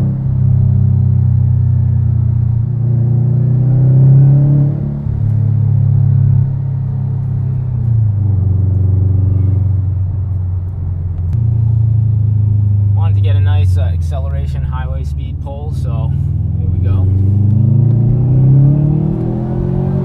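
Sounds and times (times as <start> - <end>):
car engine rumble revving: 0.0 - 20.0.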